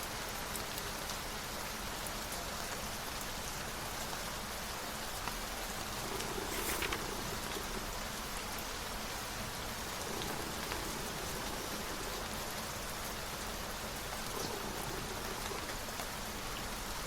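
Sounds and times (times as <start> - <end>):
rain hiss: 0.0 - 17.0
raindrop ticks: 0.1 - 17.0.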